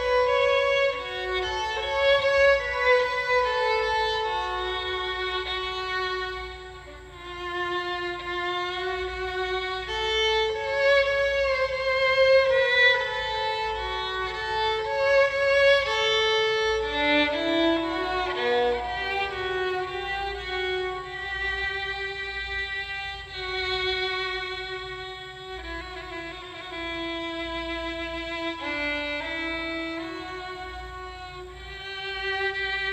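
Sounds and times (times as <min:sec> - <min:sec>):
solo violin slow melody: 0:00.0 - 0:32.9.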